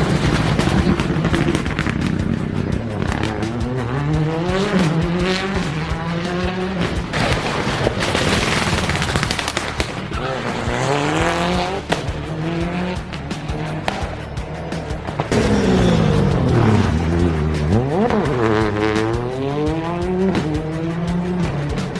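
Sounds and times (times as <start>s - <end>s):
exhaust pops and crackles: 0.0s - 21.9s
rally car engine revving: 0.0s - 21.9s.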